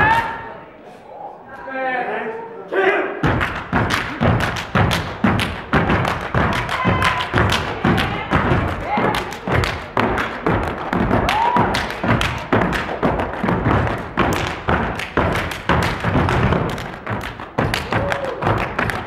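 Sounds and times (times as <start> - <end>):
people clapping in unison: 0.0 - 0.5, 3.2 - 19.0
stomping on wooden stage: 3.2 - 19.0.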